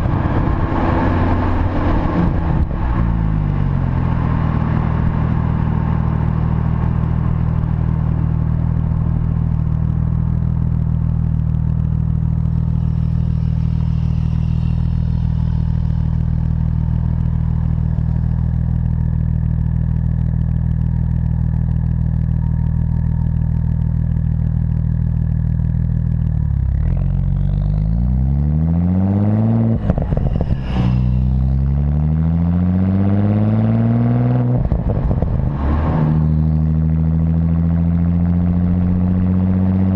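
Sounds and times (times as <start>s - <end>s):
car engine exhaust note: 0.0s - 39.9s.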